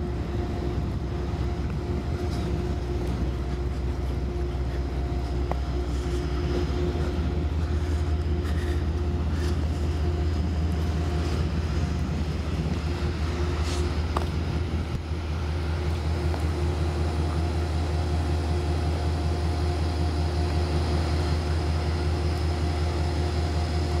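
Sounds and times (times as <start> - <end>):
diesel locomotive idling: 0.0 - 24.0.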